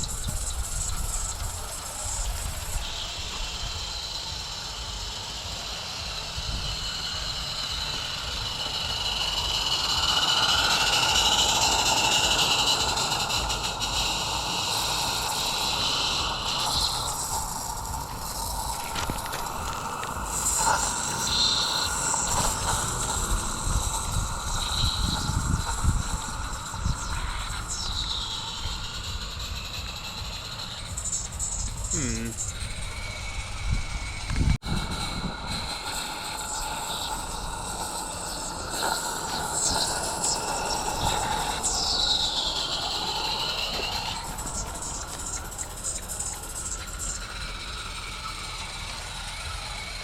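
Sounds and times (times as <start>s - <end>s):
small wheels clattering on rail: 0.0s - 50.0s
steam hissing: 0.0s - 50.0s.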